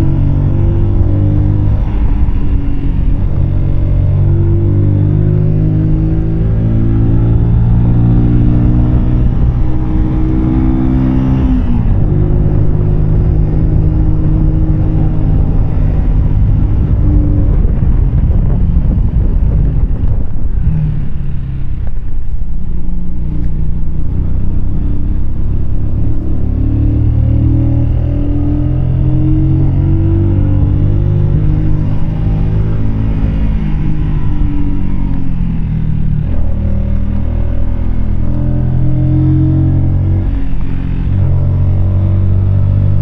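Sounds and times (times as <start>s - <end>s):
motorcycle engine running: 0.0s - 43.0s
wind noise: 0.0s - 43.0s.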